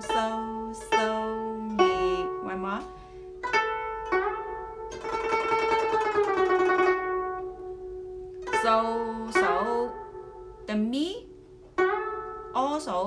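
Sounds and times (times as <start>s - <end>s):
plucked zither notes: 0.0s - 13.0s.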